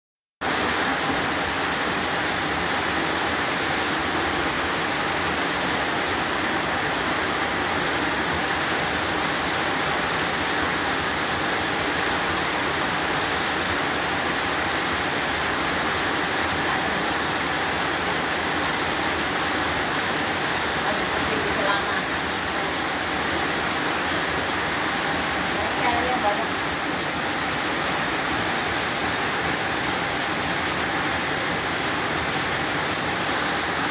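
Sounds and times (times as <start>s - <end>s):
rain on a metal roof: 0.4s - 33.9s
water streaming off roof edge: 0.4s - 33.9s.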